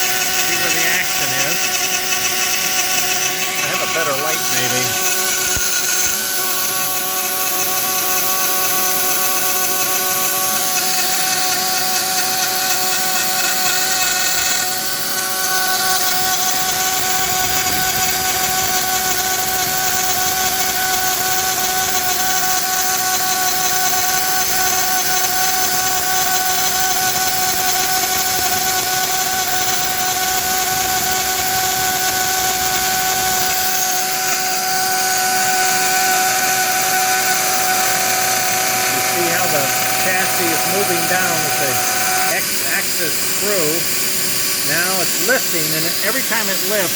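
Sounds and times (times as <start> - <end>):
rotary tool milling metal: 0.0 - 46.9.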